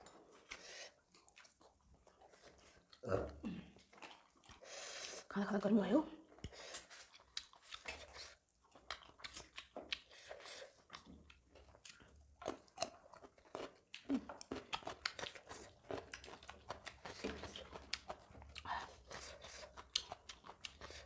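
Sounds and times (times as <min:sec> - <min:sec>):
people chewing crunchy food: 0:00.0 - 0:21.0.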